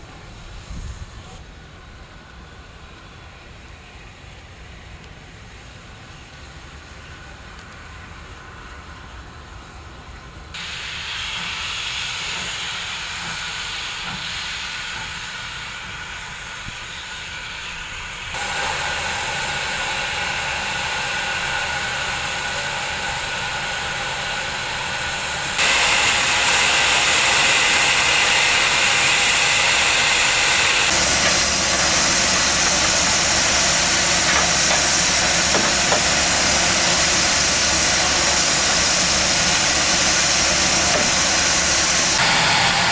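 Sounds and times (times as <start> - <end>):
steam locomotives hissing: 0.0 - 42.9.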